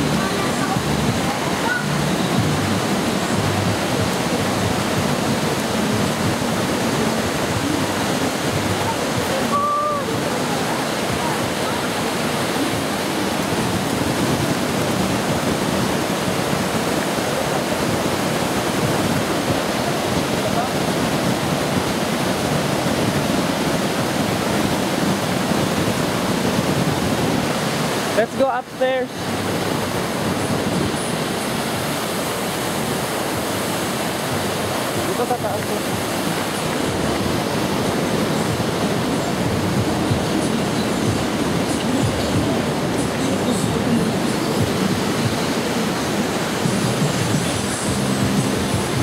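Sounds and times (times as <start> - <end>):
waterfall rushing: 0.0 - 49.0.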